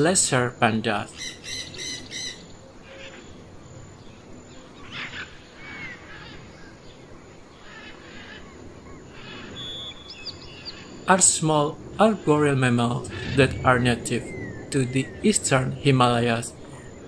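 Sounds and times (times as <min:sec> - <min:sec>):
soft steady hiss: 0:00.0 - 0:17.0
birds chirping and calling: 0:01.1 - 0:17.0.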